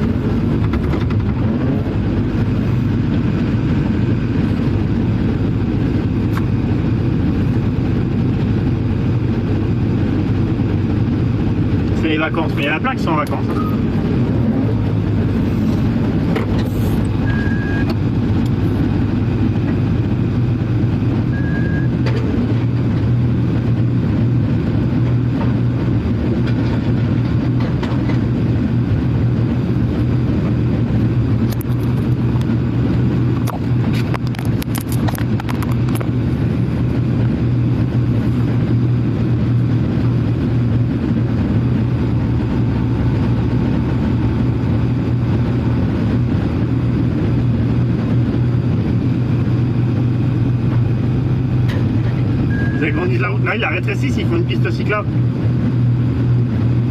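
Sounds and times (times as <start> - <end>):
vehicle engine and road noise: 0.0 - 56.9.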